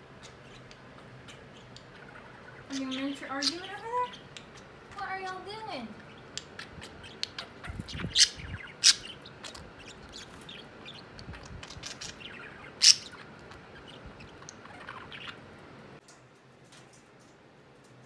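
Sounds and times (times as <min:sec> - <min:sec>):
loud sharp bird calls: 0:00.0 - 0:15.5
budgies chirping and chattering: 0:00.0 - 0:16.0.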